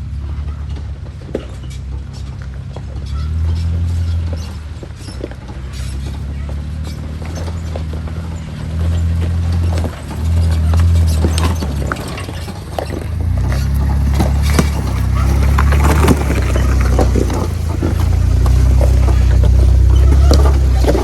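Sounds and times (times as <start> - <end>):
knocks and clunks: 0.0 - 21.0
off-road vehicle engine rumbling: 0.0 - 21.0.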